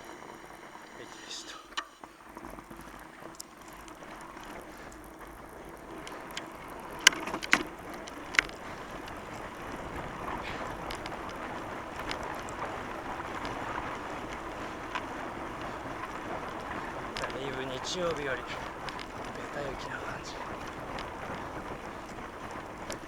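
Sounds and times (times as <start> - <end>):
bike tyres rolling on snow: 0.0 - 23.0.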